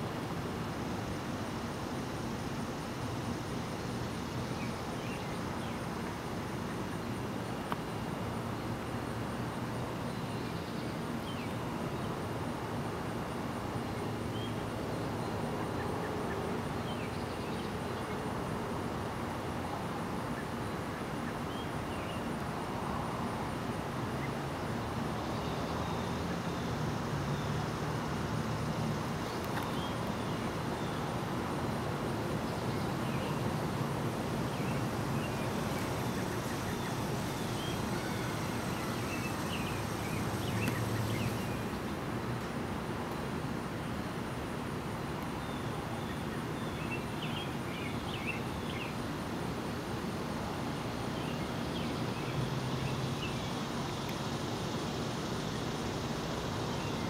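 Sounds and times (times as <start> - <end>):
low rumble and hiss: 0.0 - 57.0.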